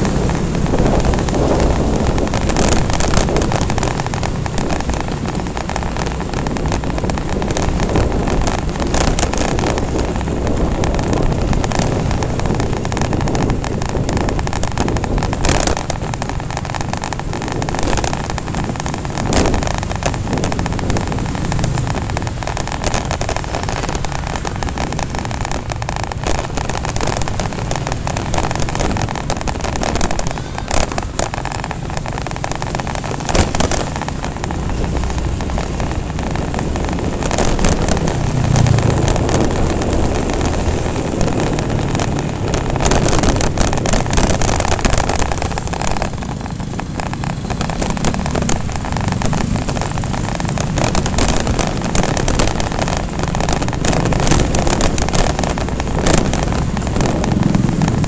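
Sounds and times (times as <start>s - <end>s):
motorcycle engine: 0.0s - 58.0s
wind buffeting microphone: 0.0s - 58.0s.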